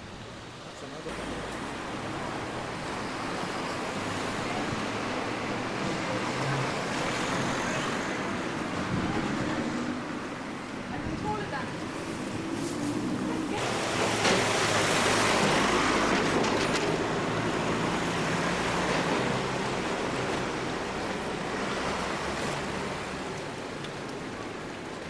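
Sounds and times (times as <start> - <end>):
traffic hum: 0.0 - 25.0.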